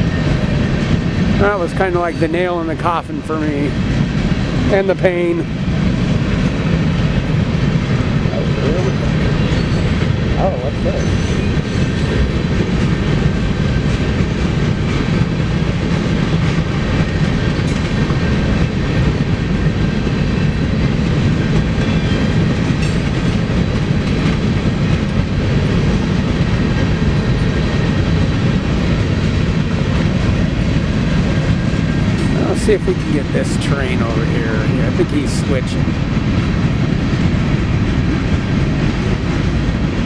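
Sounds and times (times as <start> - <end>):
freight train wheels rumbling on rails: 0.0 - 40.0.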